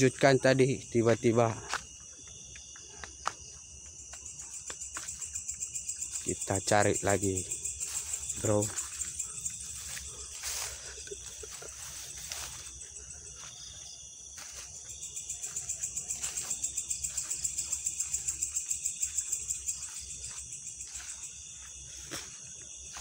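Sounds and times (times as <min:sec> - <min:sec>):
crickets chirping: 0:00.0 - 0:23.0
rapid pulsing insect trill: 0:00.0 - 0:23.0.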